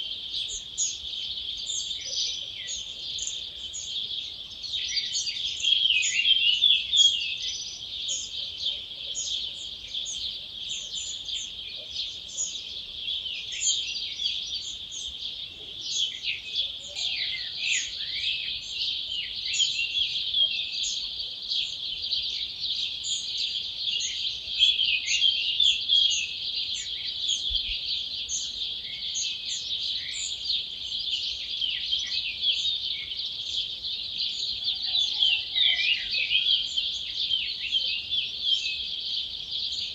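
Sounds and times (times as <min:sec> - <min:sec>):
many birds singing: 0:00.0 - 0:39.9.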